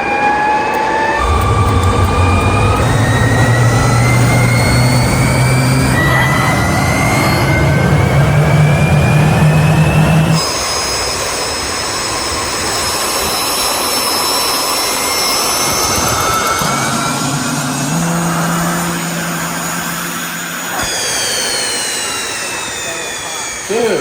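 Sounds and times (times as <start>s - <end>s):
high-pitched turbine whine: 0.0s - 24.0s
jet engine roaring: 0.0s - 24.0s.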